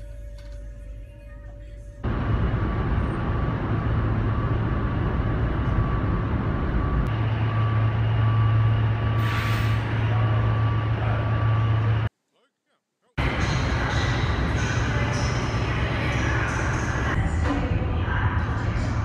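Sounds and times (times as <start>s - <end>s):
ferry engine hum: 0.0s - 12.1s, 13.2s - 19.0s.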